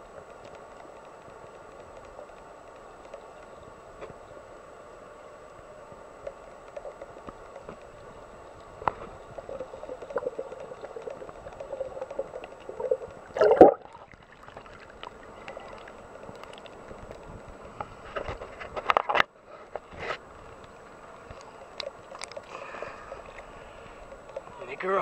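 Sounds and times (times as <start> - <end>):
muffled underwater hiss: 0.0 - 25.0
underwater clicks: 0.2 - 3.6, 6.2 - 19.3, 20.6 - 24.6.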